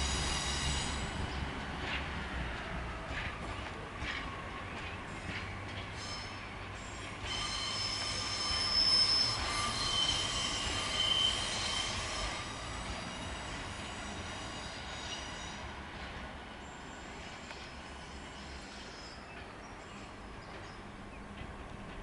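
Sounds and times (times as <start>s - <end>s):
train wheels squealing: 0.0s - 1.5s, 3.1s - 20.9s
low rumble of moving train: 0.0s - 22.0s.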